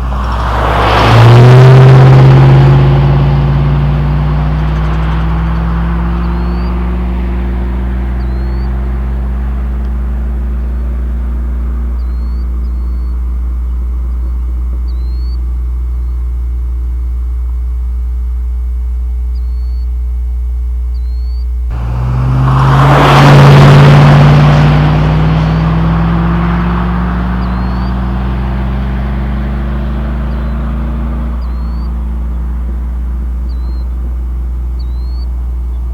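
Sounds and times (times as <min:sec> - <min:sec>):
truck engine decelerating and accelerating: 0:00.0 - 0:18.5, 0:21.0 - 0:35.9.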